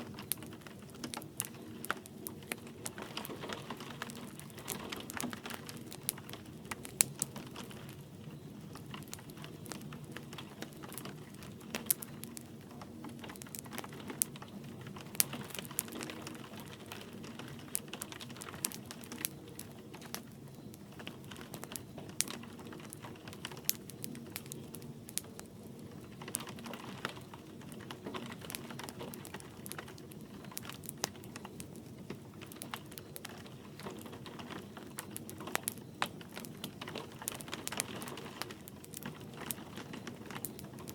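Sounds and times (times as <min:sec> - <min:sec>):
light rain pattering: 0:00.0 - 0:40.9
wood fire crackling and popping: 0:00.0 - 0:40.9.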